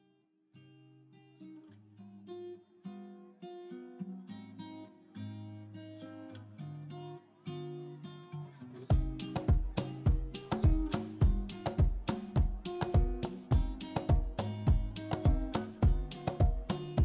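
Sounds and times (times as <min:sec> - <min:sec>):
acoustic guitar picking melody: 0:00.0 - 0:17.0.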